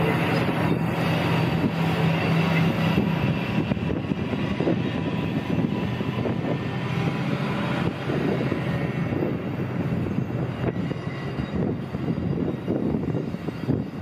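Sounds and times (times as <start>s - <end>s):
locomotive engine drone: 0.0s - 14.0s
train wheels rolling on rails: 0.0s - 14.0s.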